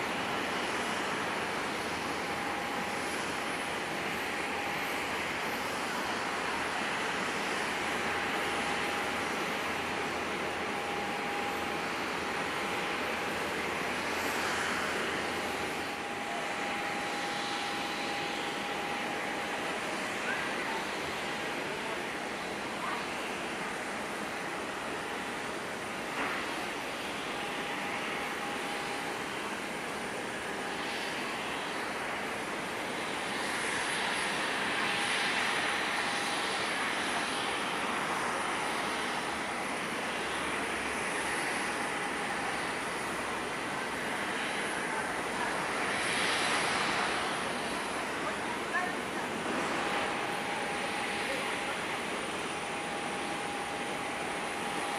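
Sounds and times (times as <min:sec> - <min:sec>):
jet engines whining: 0:00.0 - 0:54.9.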